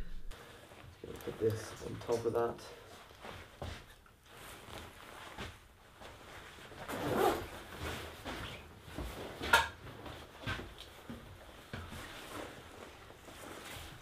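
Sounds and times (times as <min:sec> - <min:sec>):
rustling: 0:00.2 - 0:14.0.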